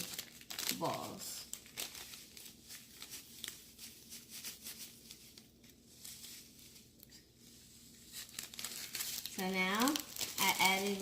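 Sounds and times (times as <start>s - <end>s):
slime beads ticking and rustling: 0.0s - 11.0s.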